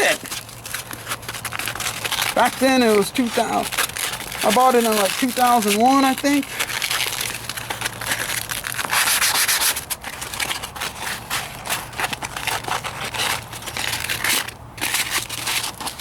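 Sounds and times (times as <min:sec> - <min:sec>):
sandpaper rasping: 0:00.0 - 0:07.2, 0:08.0 - 0:16.0.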